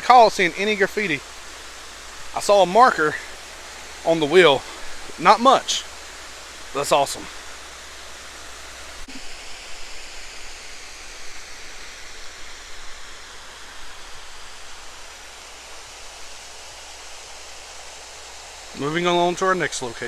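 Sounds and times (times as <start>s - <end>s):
water rushing over dam: 0.0s - 20.0s.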